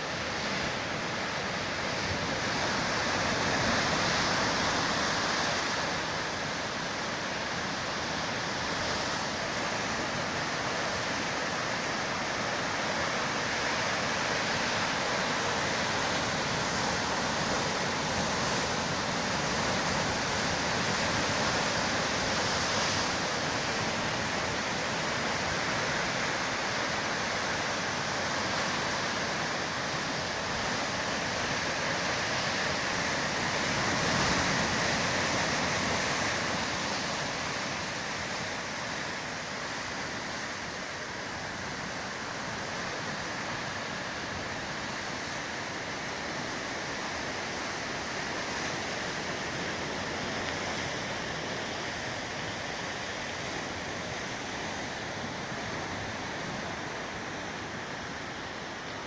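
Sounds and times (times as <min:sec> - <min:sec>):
sea surf breaking over rocks: 0:00.0 - 0:59.0.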